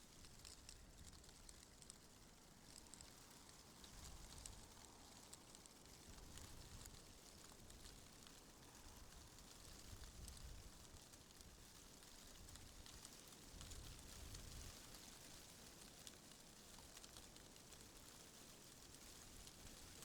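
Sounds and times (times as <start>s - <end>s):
light scattered ticks: 0.0s - 20.0s
wind rustling tree leaves: 0.1s - 20.0s.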